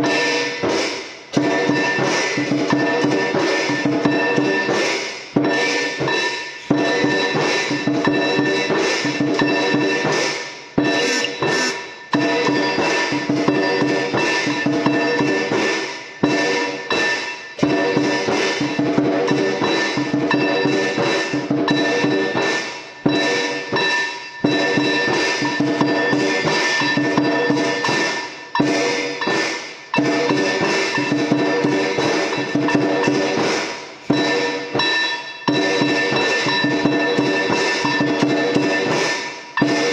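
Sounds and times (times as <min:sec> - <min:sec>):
background music with fast percussion: 0:00.0 - 0:39.9.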